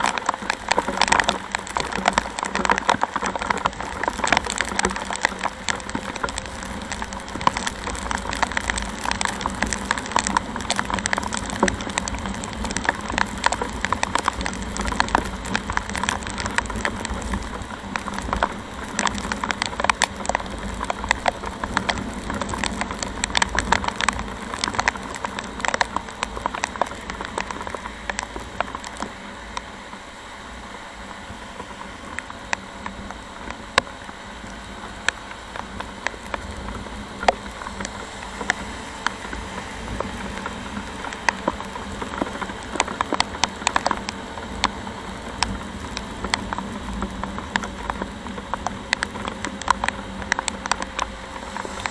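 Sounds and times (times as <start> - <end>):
motorcycle road noise: 0.0 - 51.9
raindrops tapping close: 0.0 - 51.9.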